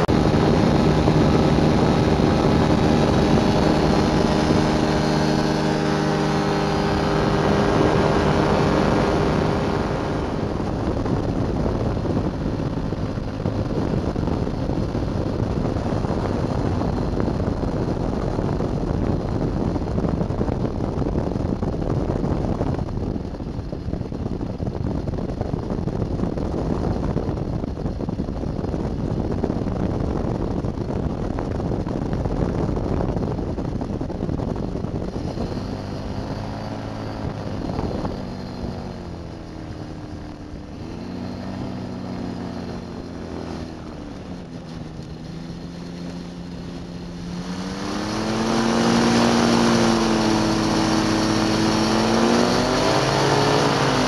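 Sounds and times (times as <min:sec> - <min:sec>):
two-stroke aircraft engine: 0:00.0 - 0:54.0
wind rushing: 0:00.0 - 0:54.0.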